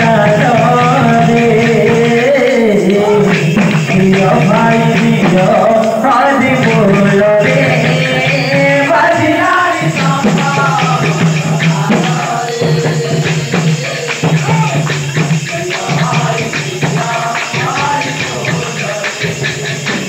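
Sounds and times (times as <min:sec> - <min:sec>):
man singing into microphone: 0:00.0 - 0:20.0
percussion steady beat: 0:00.0 - 0:20.0.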